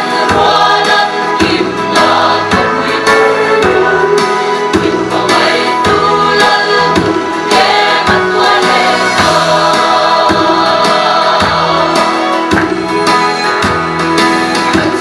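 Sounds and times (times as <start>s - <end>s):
mixed choir singing in harmony: 0.0s - 13.6s.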